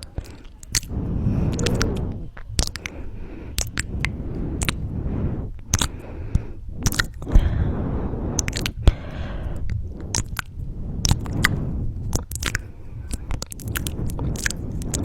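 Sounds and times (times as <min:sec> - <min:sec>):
wet lip smacks: 0:00.0 - 0:04.8, 0:05.6 - 0:07.4, 0:08.4 - 0:15.0
low rumbling noise: 0:00.0 - 0:15.0.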